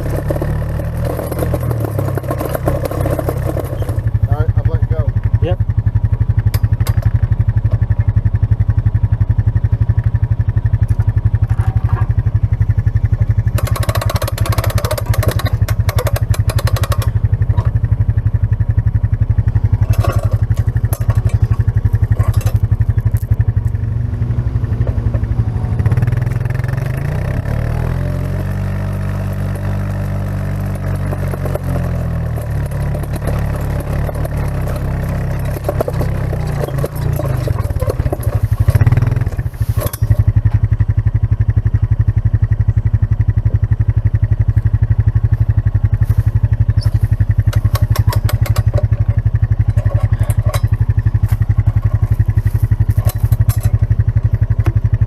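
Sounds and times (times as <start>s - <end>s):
excavator clatter: 0.0s - 5.6s, 6.4s - 8.3s, 10.6s - 40.9s, 44.6s - 55.0s
excavator diesel engine revving: 0.0s - 5.6s, 9.6s - 41.0s, 44.6s - 55.0s.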